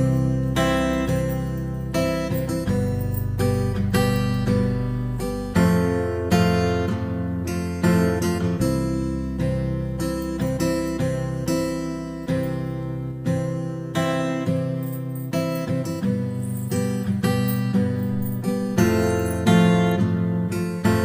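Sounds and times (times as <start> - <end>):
strummed acoustic guitar chords: 0.0 - 21.0.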